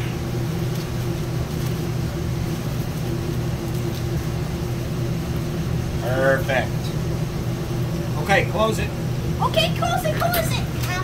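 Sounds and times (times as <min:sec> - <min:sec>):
kitchen equipment humming: 0:00.0 - 0:11.0.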